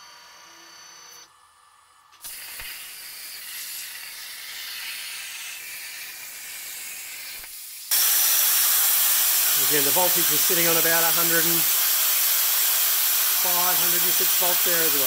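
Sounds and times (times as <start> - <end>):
plasma torch hissing: 2.2 - 15.0.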